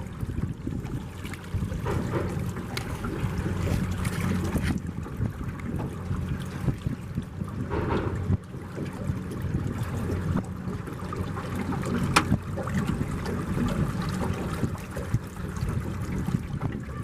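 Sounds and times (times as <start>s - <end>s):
boat engine low rumble: 0.0s - 17.0s
water washing past hull: 0.0s - 17.0s.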